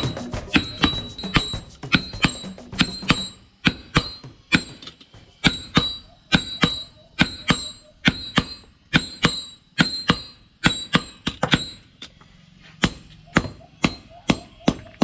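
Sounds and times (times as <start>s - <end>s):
hammers ringing on anvil: 0.0s - 12.1s, 12.8s - 15.0s.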